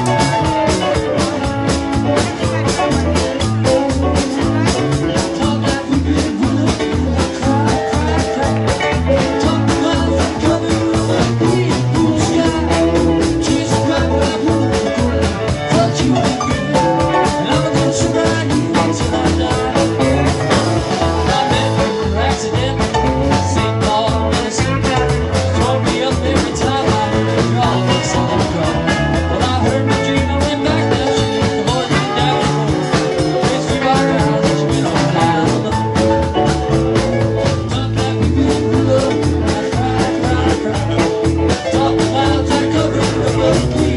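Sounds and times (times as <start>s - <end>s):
drums fast steady beat: 0.0s - 43.9s
rock band playing live: 0.0s - 43.9s.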